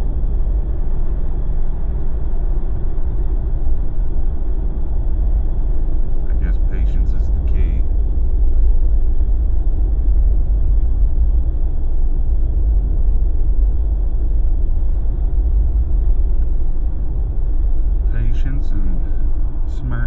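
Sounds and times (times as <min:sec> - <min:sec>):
vehicle driving low rumble: 0:00.0 - 0:20.0.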